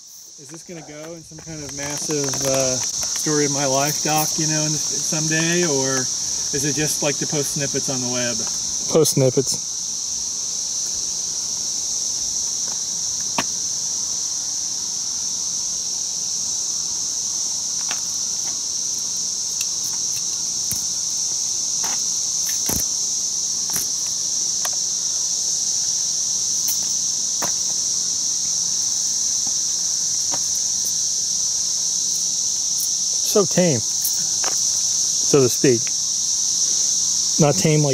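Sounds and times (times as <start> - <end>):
cicadas buzzing: 0.0 - 37.9.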